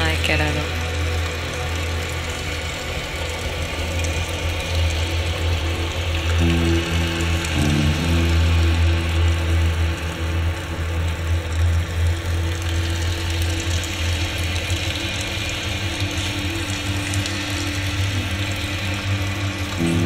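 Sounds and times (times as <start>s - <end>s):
ambient electronic drone: 0.0s - 20.0s.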